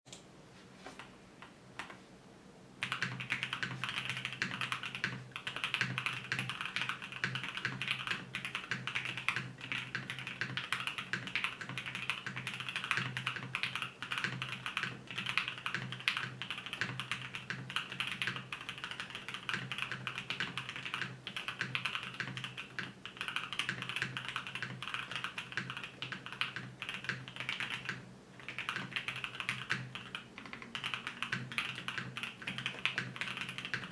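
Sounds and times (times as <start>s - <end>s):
fast mechanical keyboard typing: 2.8s - 33.9s.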